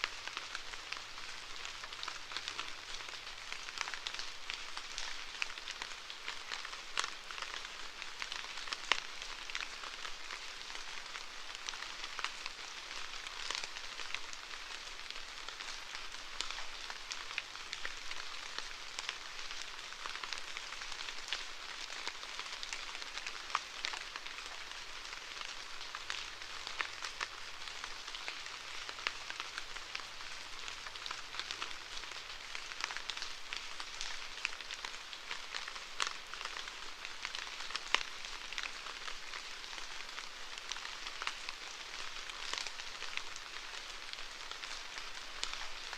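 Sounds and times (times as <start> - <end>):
rain drops pattering: 0.0 - 45.9.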